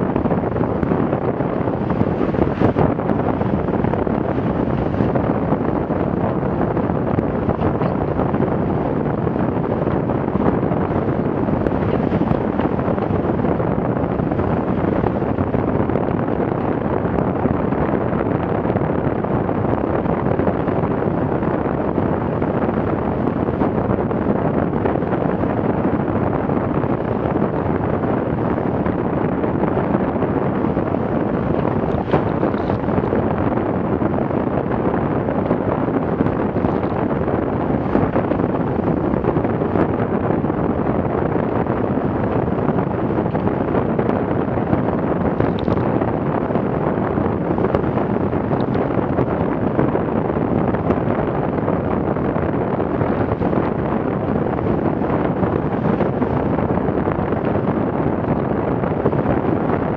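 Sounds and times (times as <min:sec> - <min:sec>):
water rushing along hull: 0:00.0 - 0:59.9
wind buffeting microphone: 0:00.0 - 0:59.9.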